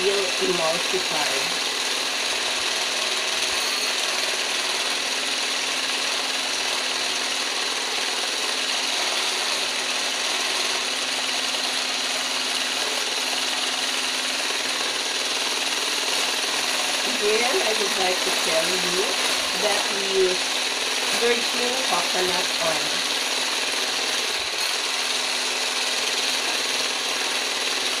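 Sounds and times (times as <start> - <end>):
hand blender motor whine: 0.0 - 28.0.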